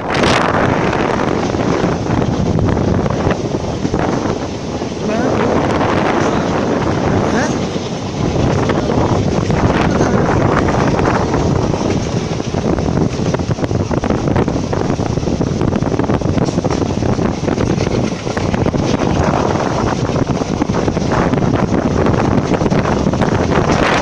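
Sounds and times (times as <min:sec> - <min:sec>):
train running on track: 0:00.0 - 0:24.0
wind buffeting microphone: 0:00.0 - 0:24.0.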